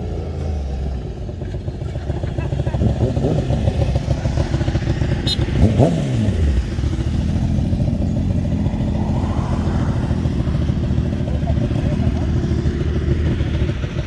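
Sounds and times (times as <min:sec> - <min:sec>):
motorcycle engine revving: 0:00.0 - 0:14.0
motorcycle engines idling: 0:00.0 - 0:14.0.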